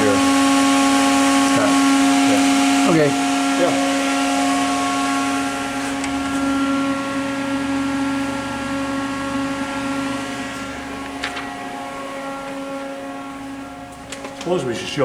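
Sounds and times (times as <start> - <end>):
electrical hum: 0.0 - 15.0
high whining tones: 0.0 - 15.0.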